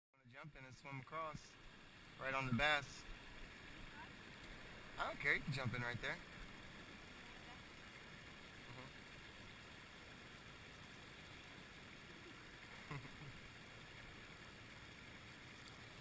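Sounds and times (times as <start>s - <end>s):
creek water flowing: 0.2s - 16.0s.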